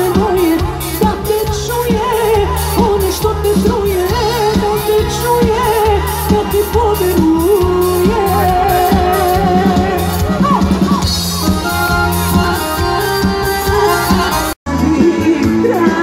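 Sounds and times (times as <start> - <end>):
pulsing bass: 0.0 - 15.9
live pop-folk band playing: 0.0 - 16.0
ornamented lead melody: 0.0 - 16.0
steady drum beat: 0.0 - 16.0.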